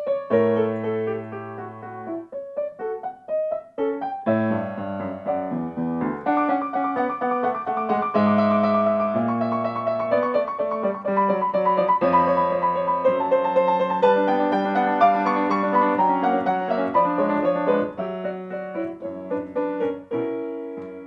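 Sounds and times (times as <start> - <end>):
grand piano playing: 0.0 - 21.0.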